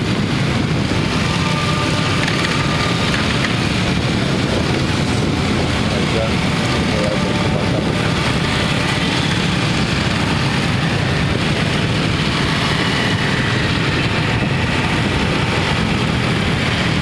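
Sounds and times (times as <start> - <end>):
car engines running: 0.0 - 17.0
rain: 0.0 - 17.0
tyres hissing on wet road: 0.0 - 17.0.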